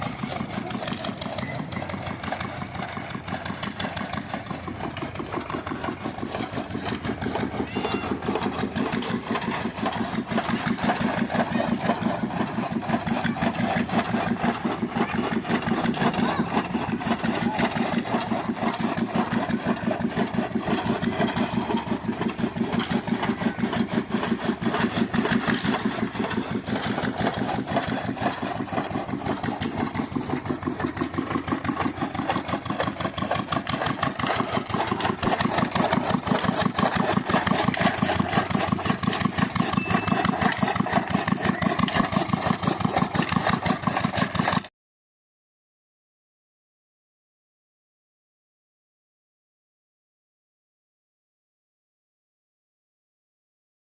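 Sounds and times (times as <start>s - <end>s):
chaff cutter engine running: 0.0s - 44.7s.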